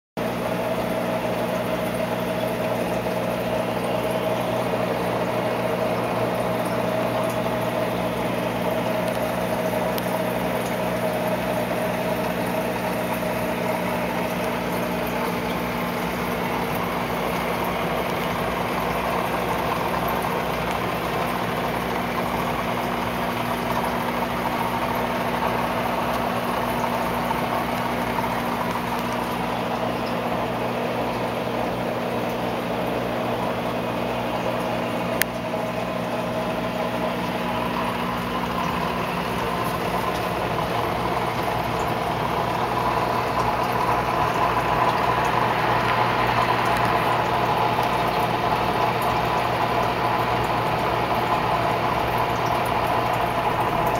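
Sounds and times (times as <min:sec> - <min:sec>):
electric motor hum: 0:00.2 - 0:53.9.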